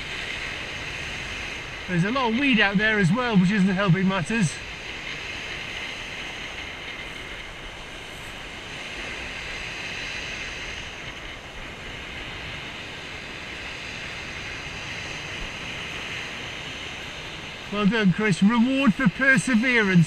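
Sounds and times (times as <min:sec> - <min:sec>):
surf breaking on shingle beach: 0:00.0 - 0:20.0
wind buffeting microphone: 0:00.0 - 0:20.0.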